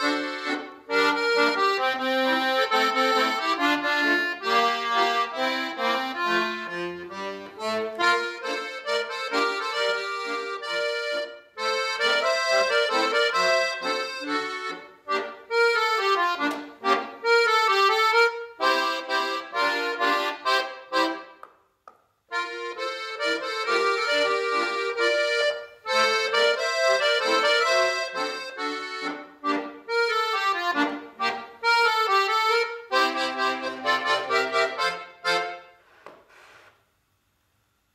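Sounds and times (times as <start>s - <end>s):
piano accordion playing detached notes: 0.0s - 21.4s, 22.3s - 35.8s.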